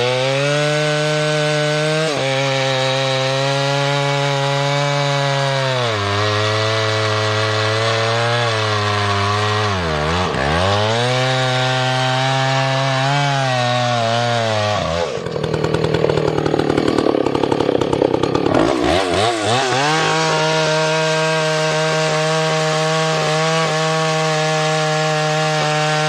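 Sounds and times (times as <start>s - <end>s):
chainsaw cutting at high revs: 0.0s - 26.0s.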